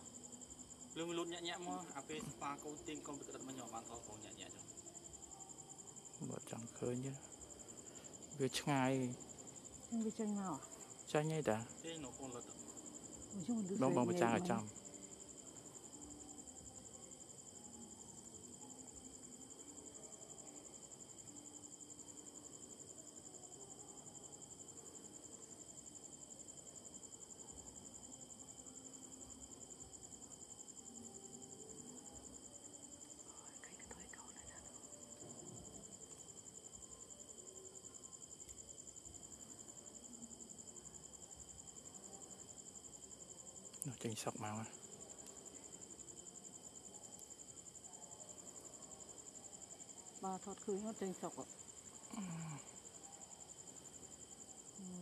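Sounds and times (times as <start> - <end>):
crickets and insects trilling: 0.0 - 55.0.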